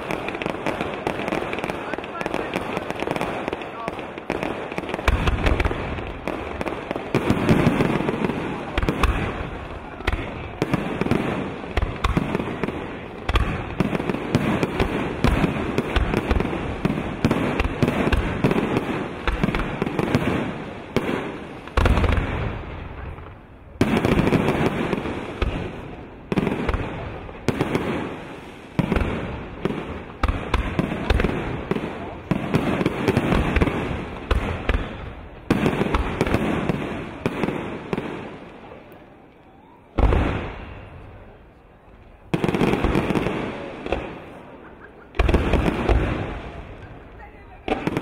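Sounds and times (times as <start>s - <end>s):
fireworks booming: 0.0s - 48.0s
fireworks crackling: 0.0s - 48.0s.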